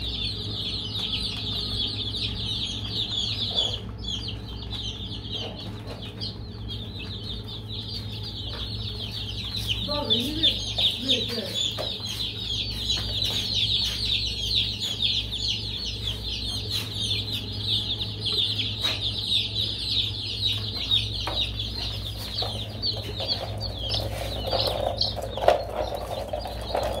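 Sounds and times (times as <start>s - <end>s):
baby chicks peeping: 0.0s - 27.0s
low steady hum: 0.0s - 27.0s.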